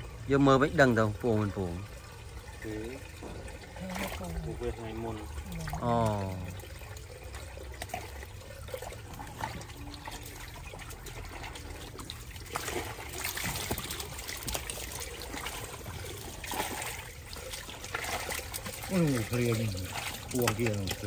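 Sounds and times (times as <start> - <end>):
water trickling and pouring: 0.0 - 21.0.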